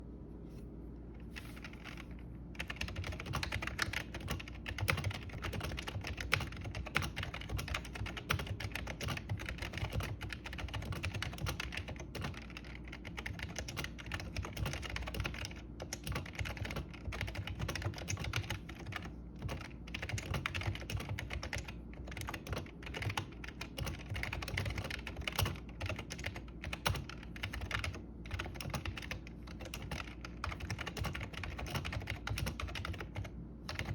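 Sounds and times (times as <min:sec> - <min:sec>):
keyboard typing: 0:01.4 - 0:33.9.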